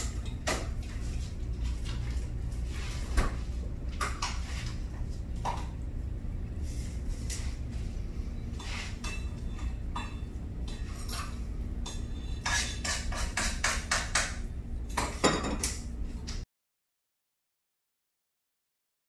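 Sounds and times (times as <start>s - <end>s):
low steady hum: 0.0s - 16.4s.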